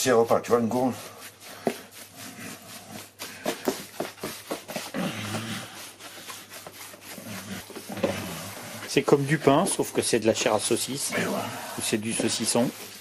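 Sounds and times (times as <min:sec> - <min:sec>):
hands kneading wet meat: 0:00.0 - 0:13.0.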